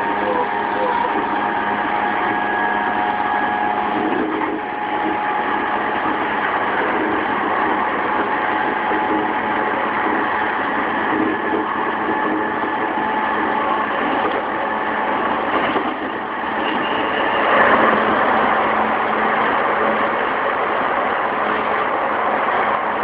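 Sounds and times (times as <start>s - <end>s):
traction motor whine: 0.0s - 23.0s
train wheels rumbling on rail: 0.0s - 23.0s.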